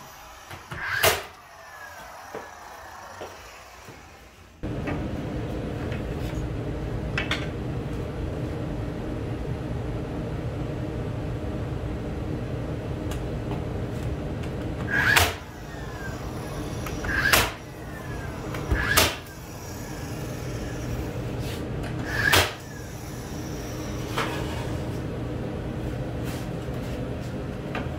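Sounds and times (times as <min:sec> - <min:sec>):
steady background hum: 0:00.0 - 0:27.9.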